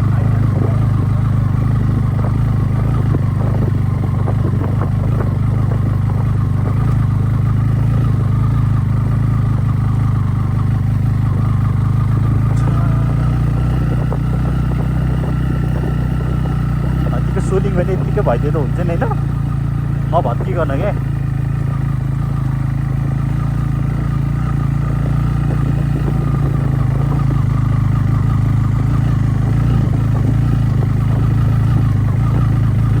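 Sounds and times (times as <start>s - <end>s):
motorcycle engine running: 0.0s - 33.0s
rattling over bumps: 0.0s - 33.0s.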